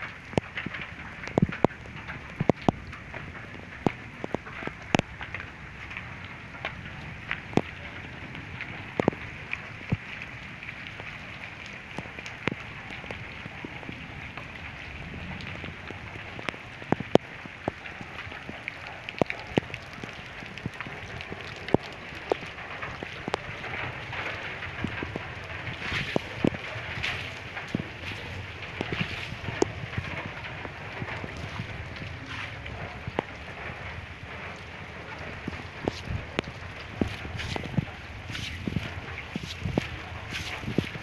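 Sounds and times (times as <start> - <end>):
hail pelting the ground: 0.0 - 41.0
hailstones clicking on hard surfaces: 0.0 - 41.0.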